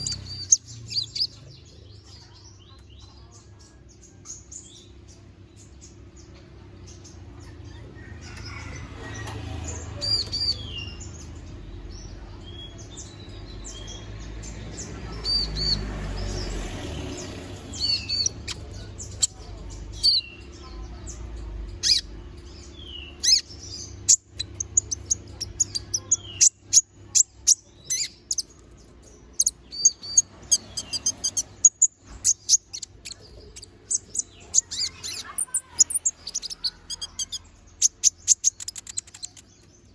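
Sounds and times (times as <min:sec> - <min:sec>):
low background rumble: 0:00.0 - 0:03.7, 0:04.3 - 0:39.9
sunbird singing high chirps: 0:00.0 - 0:08.7, 0:09.9 - 0:39.9.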